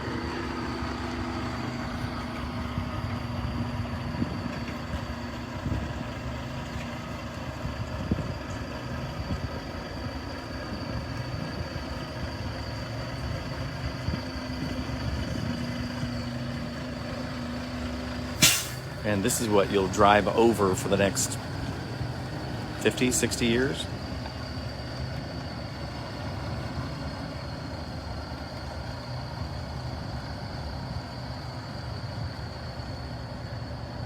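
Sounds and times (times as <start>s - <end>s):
truck diesel engine droning: 0.0s - 34.0s.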